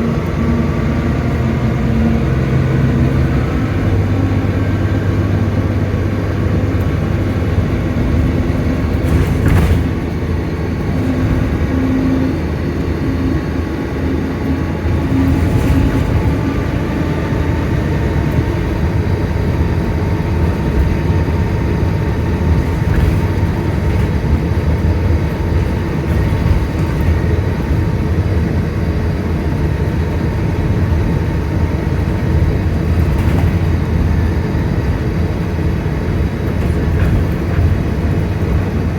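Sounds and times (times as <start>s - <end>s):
bus diesel engine drone: 0.0s - 38.9s.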